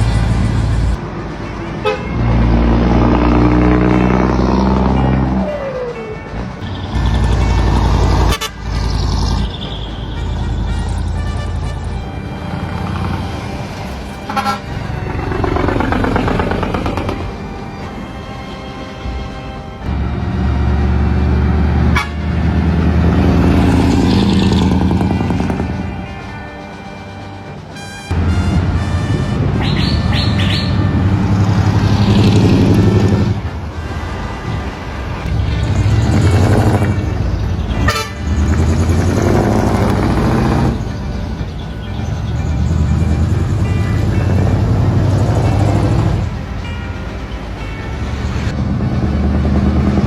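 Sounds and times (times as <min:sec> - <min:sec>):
diesel truck engine running: 0:00.0 - 0:50.0.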